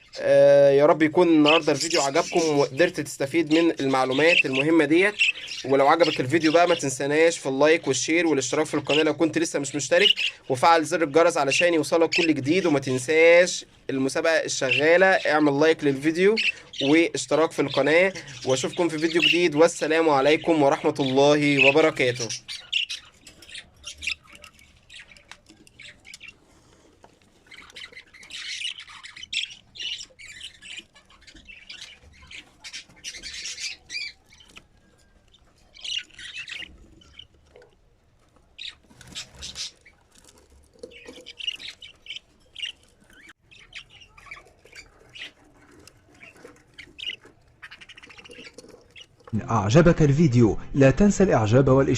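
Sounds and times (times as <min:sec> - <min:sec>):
budgerigars chattering and squawking: 0:00.0 - 0:26.8, 0:27.4 - 0:37.5, 0:38.6 - 0:50.0.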